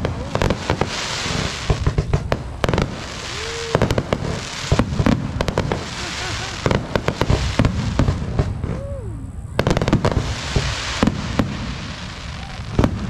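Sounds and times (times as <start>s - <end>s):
fireworks bursting with sharp bangs: 0.0s - 13.0s
rushing hiss of fireworks: 0.0s - 13.0s.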